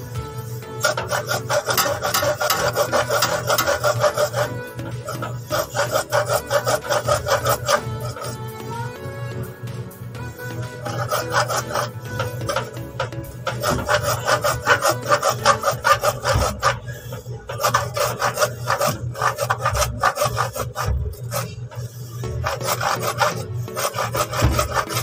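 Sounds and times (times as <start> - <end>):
hacksaw sawing plastic pipe: 0.0 - 9.4, 10.2 - 25.0.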